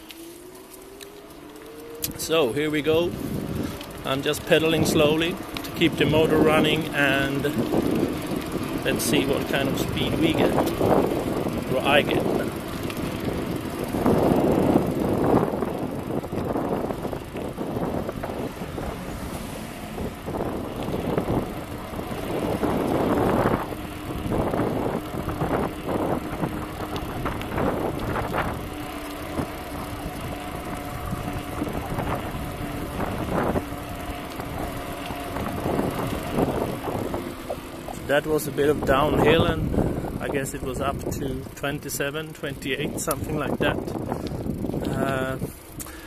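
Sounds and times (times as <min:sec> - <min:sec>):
bicycle tyres rolling: 0:00.0 - 0:46.0
faint electric motor hum: 0:00.0 - 0:46.0
wind buffeting microphone: 0:01.2 - 0:46.0.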